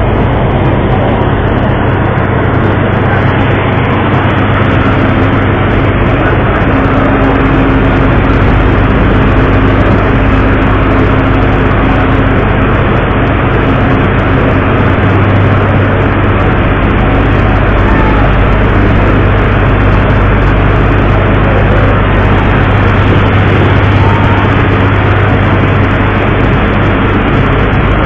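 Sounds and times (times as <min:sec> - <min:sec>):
rushing wind: 0:00.0 - 0:28.0
ship engine drone: 0:00.0 - 0:28.0
water noise: 0:00.0 - 0:28.0.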